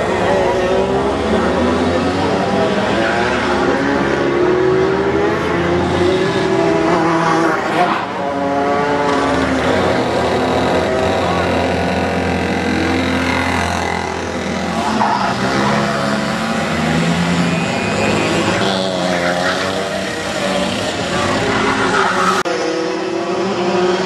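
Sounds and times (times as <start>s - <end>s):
kart engines racing: 0.0s - 24.0s.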